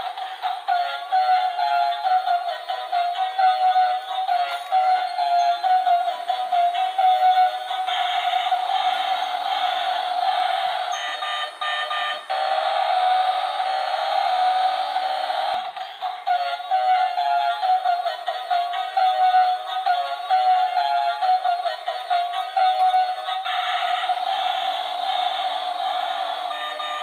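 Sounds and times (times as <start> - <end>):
toy electronic held tone: 0.0 - 27.0
toy electronic tune: 0.0 - 27.0.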